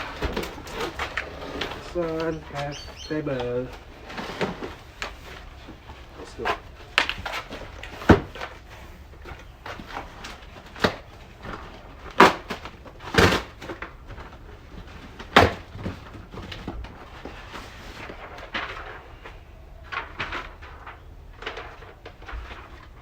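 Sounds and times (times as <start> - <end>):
scraping rustle: 0.0 - 12.0, 12.6 - 23.0
plastic toys clattering: 0.0 - 23.0.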